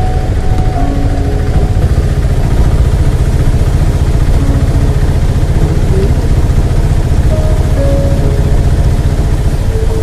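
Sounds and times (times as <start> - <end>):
constant low rumble: 0.0 - 10.0.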